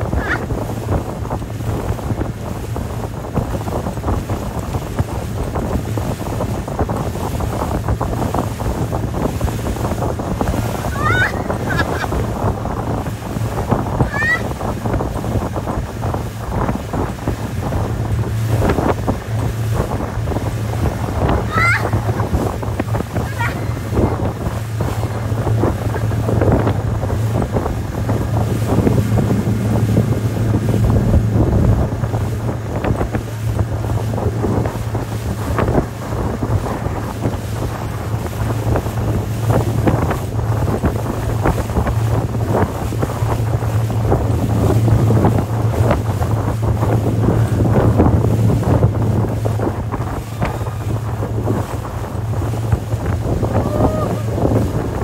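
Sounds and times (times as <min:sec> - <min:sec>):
outboard motor droning: 0:00.0 - 0:55.0
rush of churning wake: 0:00.0 - 0:55.0
wind buffeting microphone: 0:00.0 - 0:55.0.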